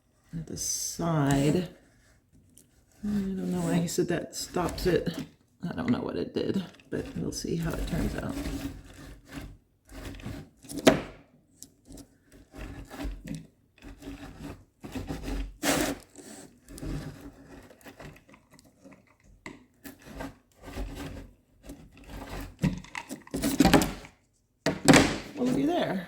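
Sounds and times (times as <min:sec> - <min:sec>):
spline roller scraping screen: 0:00.0 - 0:24.2, 0:25.2 - 0:26.0.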